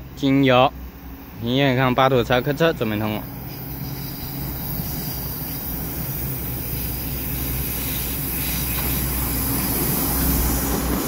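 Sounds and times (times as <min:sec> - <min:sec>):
diesel engines droning: 0:00.0 - 0:11.0
wheel-on-rail noise: 0:00.9 - 0:11.0.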